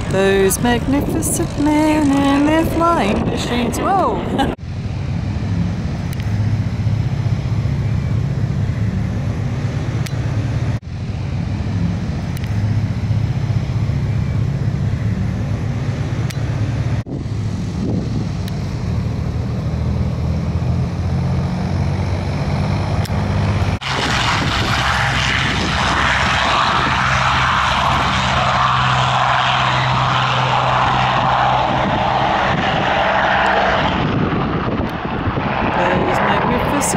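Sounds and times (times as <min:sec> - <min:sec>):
high-pitched engine noise: 0:00.0 - 0:36.9
propeller aircraft engines droning: 0:00.0 - 0:36.9.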